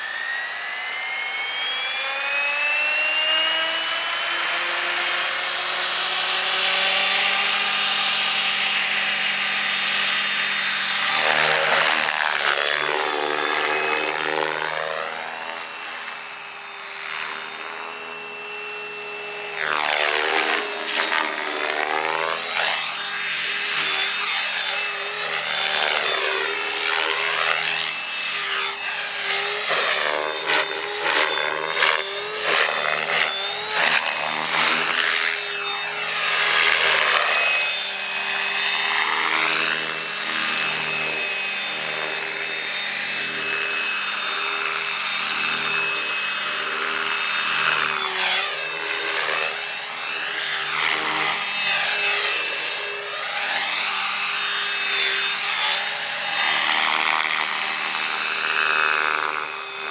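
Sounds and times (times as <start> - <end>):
motor and gear whine: 0.0 - 59.9
rc helicopter rotor buzz: 0.0 - 59.9.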